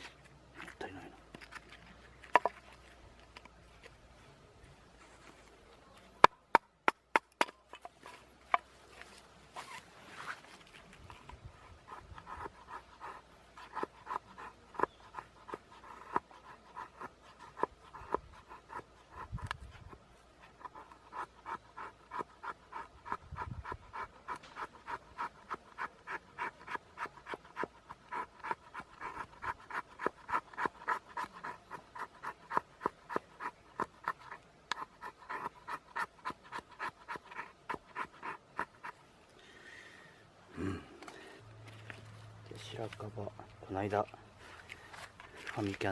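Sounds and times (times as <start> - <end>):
blade scraping firewood: 0.0 - 6.4, 7.1 - 39.0.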